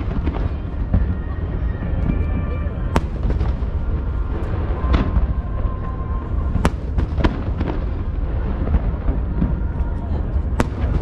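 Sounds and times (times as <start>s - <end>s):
continuous low rumble: 0.0s - 11.0s
fireworks bangs: 0.0s - 11.0s
fireworks crackles: 0.0s - 11.0s.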